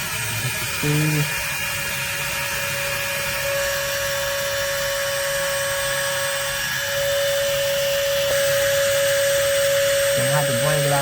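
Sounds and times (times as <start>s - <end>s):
hydraulic jack pump whining: 0.0s - 11.0s.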